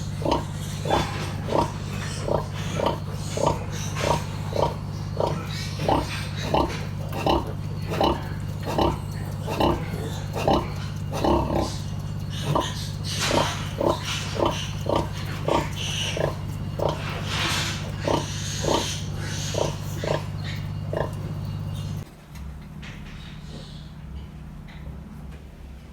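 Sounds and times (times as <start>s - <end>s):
pig grunting: 0.0s - 22.0s
steady low hum: 0.0s - 25.9s.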